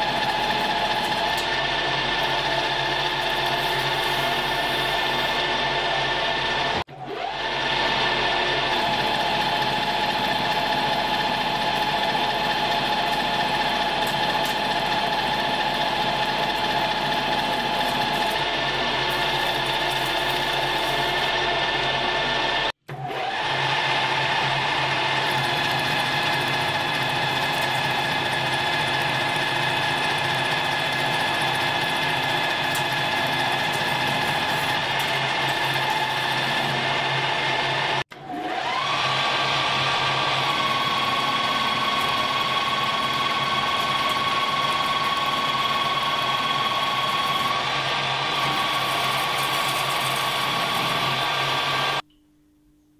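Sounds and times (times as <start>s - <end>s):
metal lathe motor whining: 0.0s - 52.0s.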